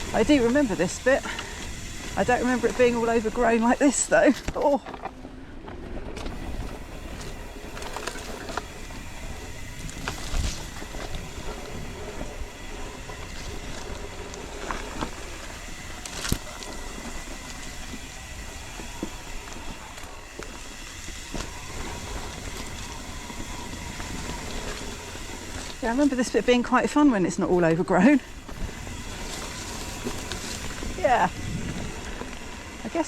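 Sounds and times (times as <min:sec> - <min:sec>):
bike tyres rolling and rattling: 0:00.0 - 0:33.0.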